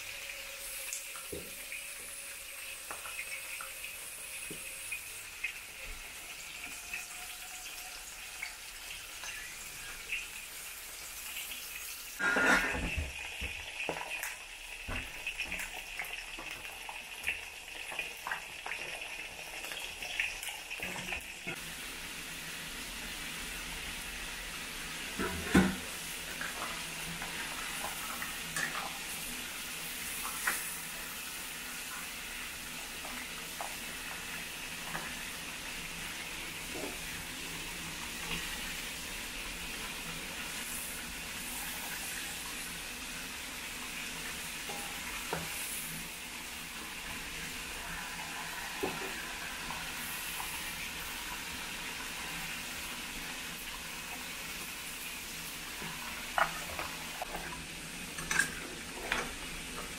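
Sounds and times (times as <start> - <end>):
crab sizzling in sauce: 0.0 - 59.9.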